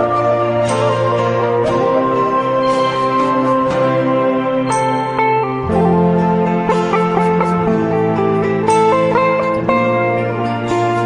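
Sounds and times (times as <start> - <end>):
instrumental music with plucked notes: 0.0 - 11.0.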